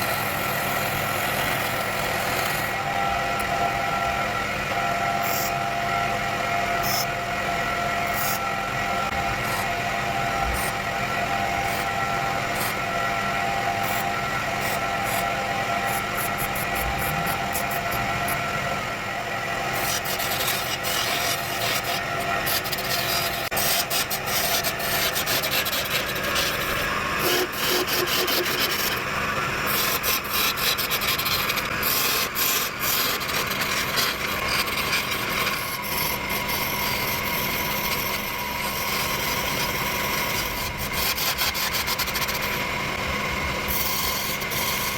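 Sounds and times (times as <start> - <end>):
lathe motor whine: 0.0 - 44.9
tool scraping spinning wood: 8.0 - 18.7, 19.4 - 44.9.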